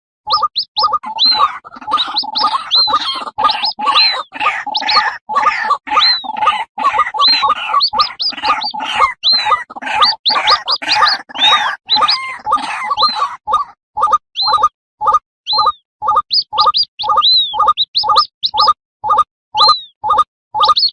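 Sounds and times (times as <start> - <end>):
birds croaking: 0.3 - 13.8, 15.5 - 18.8.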